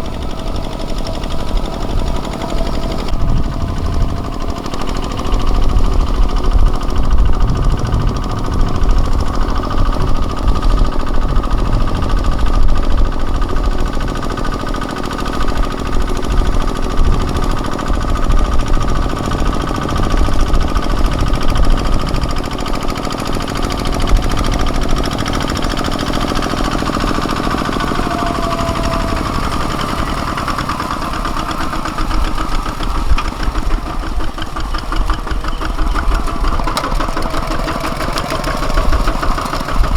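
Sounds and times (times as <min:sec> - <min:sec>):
diesel tractor engine knocking: 0:00.0 - 0:39.9.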